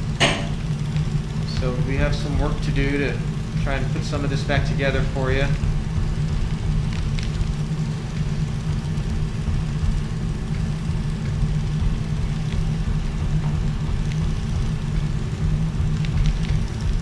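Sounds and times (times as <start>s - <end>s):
medical equipment humming: 0.0s - 17.0s.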